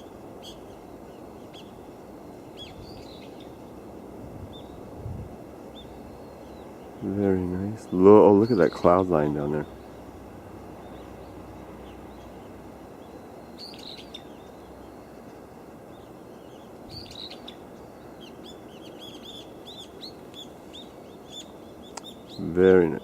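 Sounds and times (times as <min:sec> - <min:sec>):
small birds chirping: 0:00.0 - 0:23.0
steady low background noise: 0:00.0 - 0:23.0.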